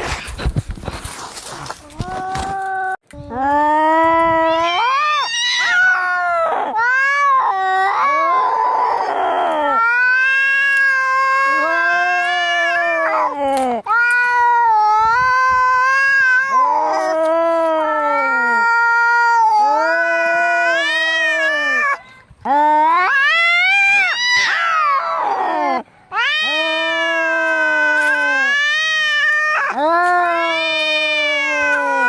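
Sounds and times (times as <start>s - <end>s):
cats yowling: 3.8s - 22.0s, 22.7s - 32.0s.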